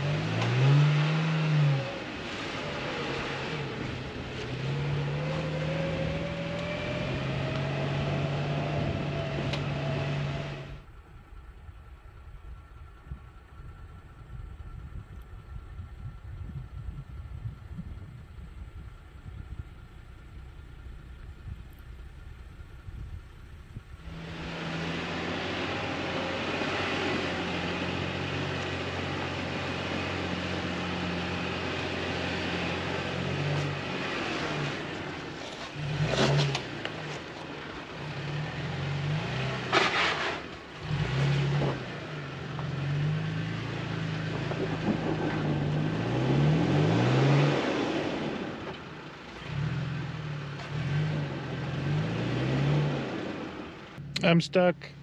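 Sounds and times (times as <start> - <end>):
truck engine revving: 0.0 - 11.0, 17.9 - 55.0.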